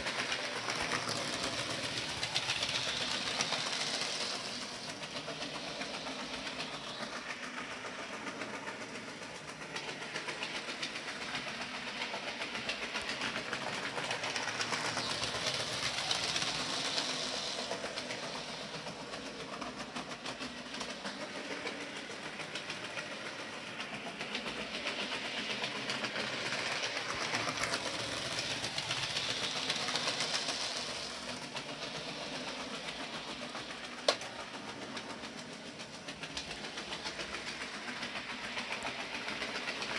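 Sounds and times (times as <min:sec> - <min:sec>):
model train running on rails: 0:00.0 - 0:39.9.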